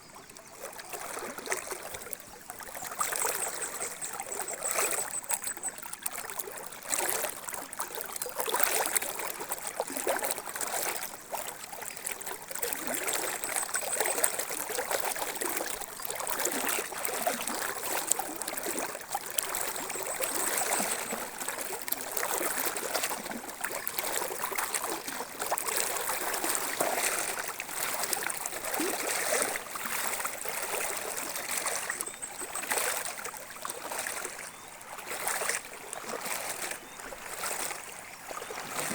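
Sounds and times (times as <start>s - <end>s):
river water rushing and splashing: 0.9s - 38.9s.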